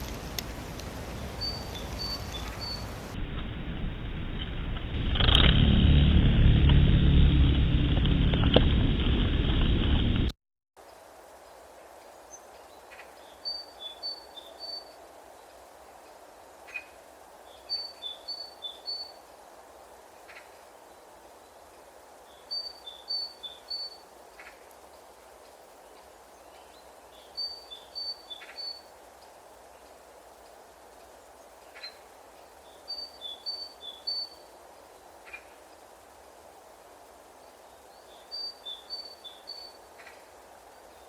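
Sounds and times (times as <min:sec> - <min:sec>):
faint steady hiss: 0:00.0 - 0:05.2, 0:10.8 - 0:41.0.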